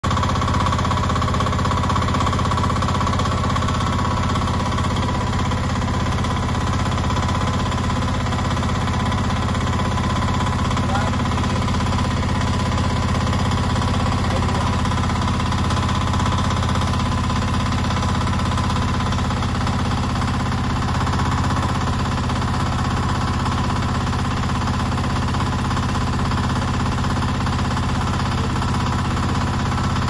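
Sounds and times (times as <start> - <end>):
mini excavator engine pulsing: 0.0 - 30.0.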